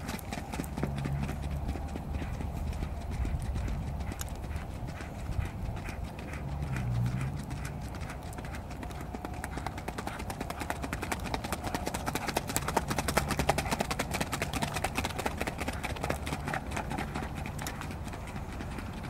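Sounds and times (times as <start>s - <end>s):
horse hoofbeats on sand: 0.0s - 19.0s.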